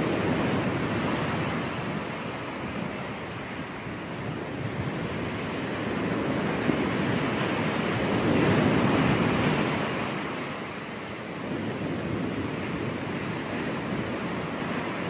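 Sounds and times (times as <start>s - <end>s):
ocean surf on beach: 0.0s - 15.0s
wind on microphone: 0.0s - 15.0s.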